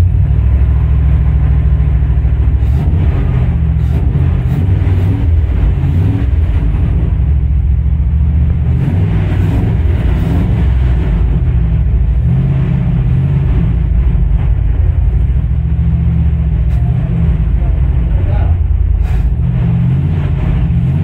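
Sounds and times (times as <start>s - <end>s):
pickup engine rumbling: 0.0s - 21.0s.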